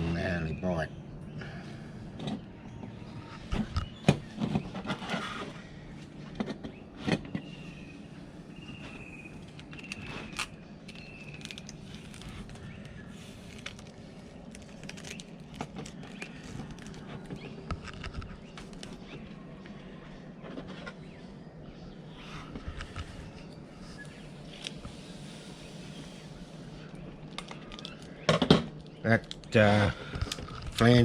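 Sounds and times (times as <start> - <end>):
bird calling: 0.0 - 31.0.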